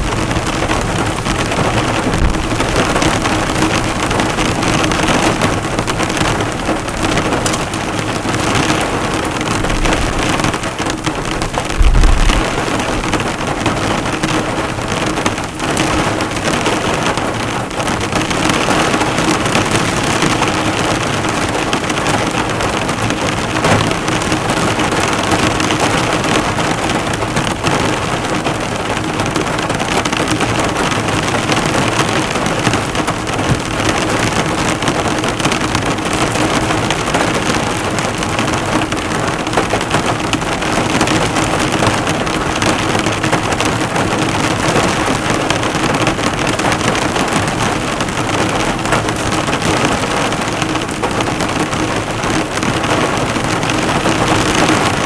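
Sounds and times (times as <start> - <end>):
heavy rain on car bodywork: 0.0 - 55.0.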